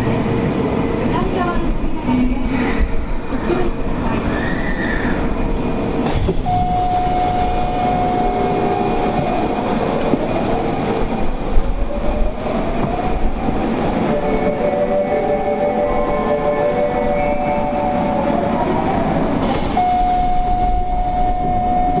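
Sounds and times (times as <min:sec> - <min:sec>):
wheel and rail rumble: 0:00.0 - 0:22.0.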